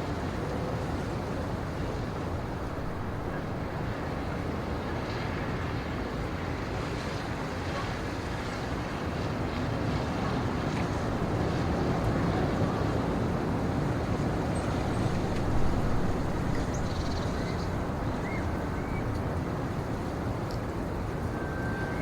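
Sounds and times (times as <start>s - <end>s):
low rumbling wind through forest: 0.0s - 6.8s, 9.9s - 22.0s.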